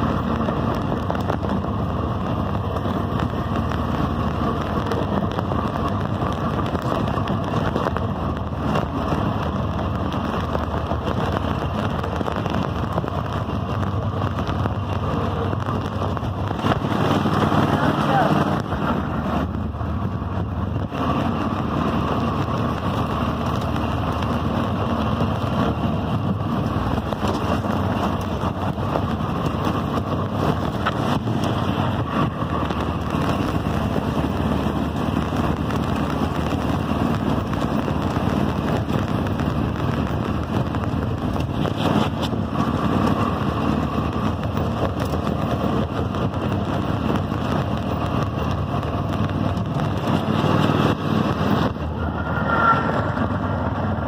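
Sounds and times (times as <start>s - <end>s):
riding lawn mower engine running: 0.0s - 54.0s.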